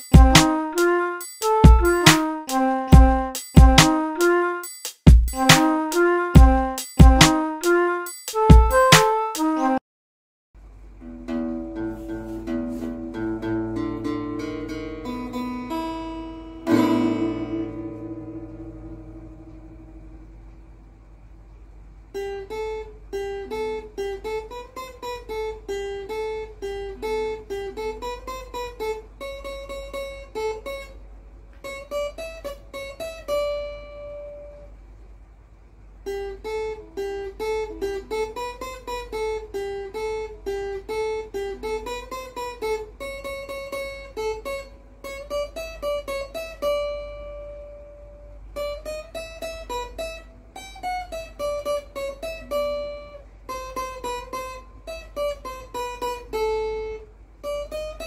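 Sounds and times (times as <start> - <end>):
acoustic guitar picked melody: 0.0 - 9.8, 10.8 - 58.0.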